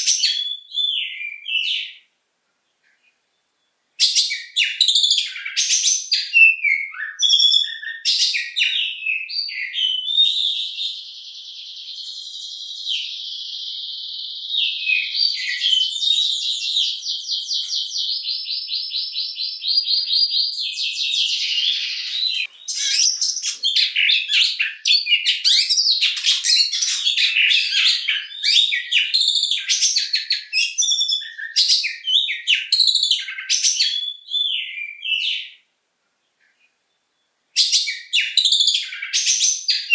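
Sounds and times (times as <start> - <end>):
magpie-robin singing: 0.0 - 2.1, 2.9 - 35.7, 36.5 - 39.9.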